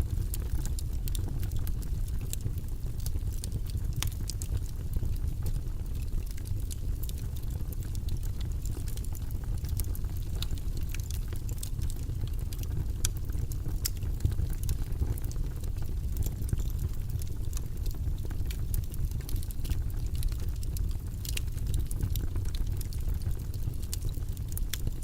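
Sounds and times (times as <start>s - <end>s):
low white noise: 0.0s - 25.0s.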